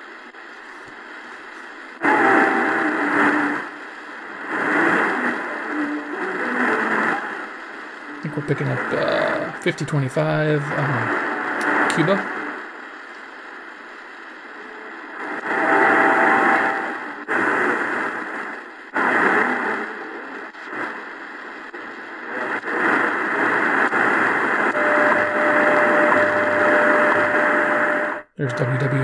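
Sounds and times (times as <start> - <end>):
shortwave radio static: 0.0 - 29.0
steady radio time tone: 0.0 - 29.0.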